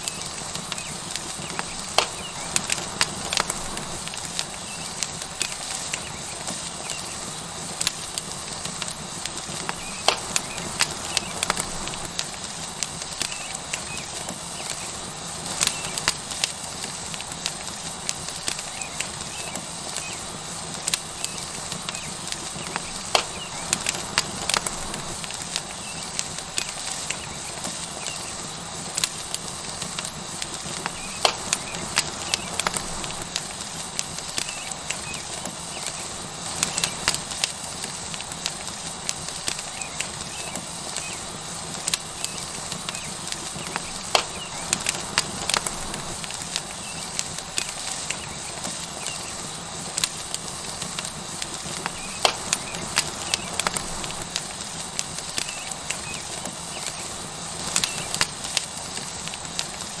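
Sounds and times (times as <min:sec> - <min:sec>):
fat and wood crackling: 0:00.0 - 1:00.0
steak sizzling on hot rock: 0:00.0 - 1:00.0.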